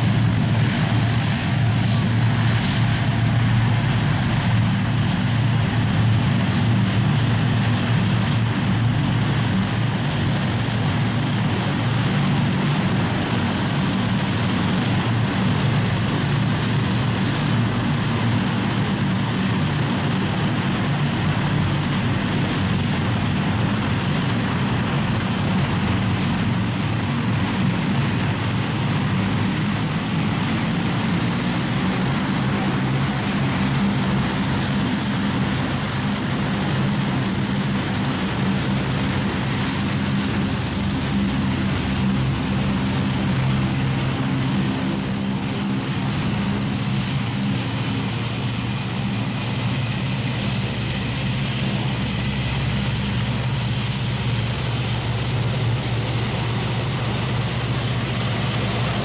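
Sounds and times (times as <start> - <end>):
propeller drone: 0.0 - 59.0
turbine whine: 0.0 - 59.0.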